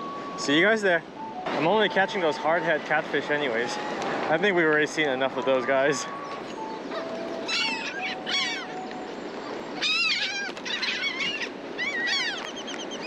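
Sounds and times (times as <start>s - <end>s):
gulls calling: 0.0s - 13.0s
wind: 0.0s - 13.0s.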